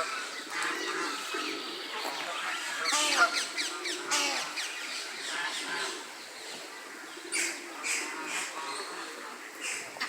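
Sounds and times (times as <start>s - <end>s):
birds chirping and calling: 0.0s - 10.0s.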